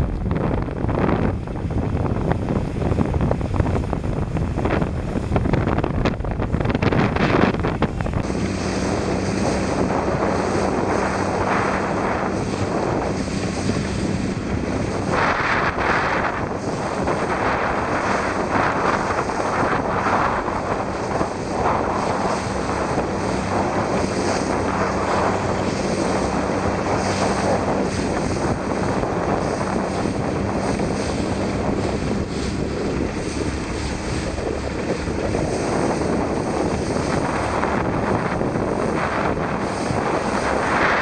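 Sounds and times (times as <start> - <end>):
choppy water splashing: 0.0 - 41.0
wind buffeting microphone: 0.0 - 41.0.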